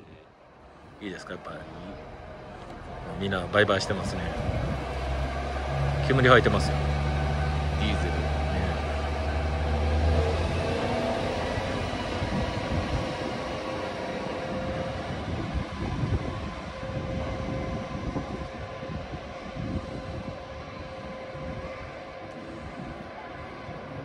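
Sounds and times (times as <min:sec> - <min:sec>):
diesel railcar engine pulling away: 0:00.0 - 0:24.0.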